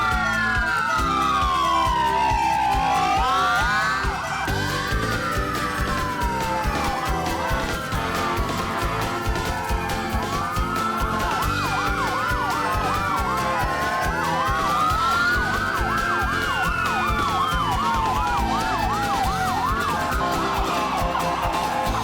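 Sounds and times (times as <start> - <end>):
emergency vehicle sirens: 0.0 - 22.0
music: 0.0 - 22.0.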